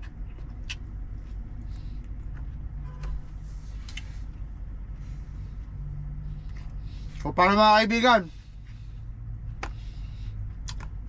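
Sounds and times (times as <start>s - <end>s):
truck cab rumble and hum: 0.0s - 11.0s.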